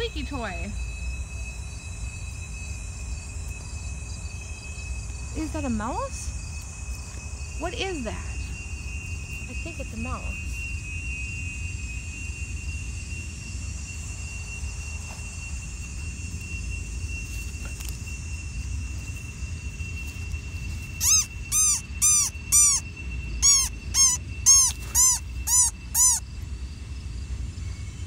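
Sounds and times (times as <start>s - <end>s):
high rising-falling squeaks: 0.0s - 26.3s
crickets trilling: 0.0s - 28.0s.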